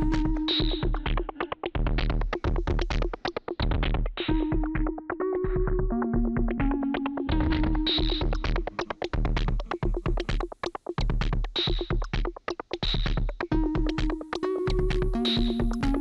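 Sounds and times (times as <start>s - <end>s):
drum machine beat: 0.0s - 16.0s.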